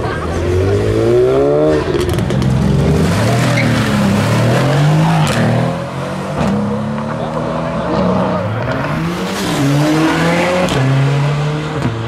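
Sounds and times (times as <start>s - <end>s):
car engine revving hard: 0.4s - 12.0s.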